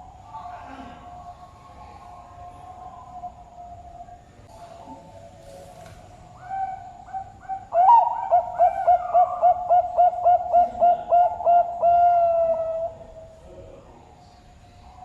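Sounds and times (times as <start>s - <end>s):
dove cooing: 0.0s - 13.3s.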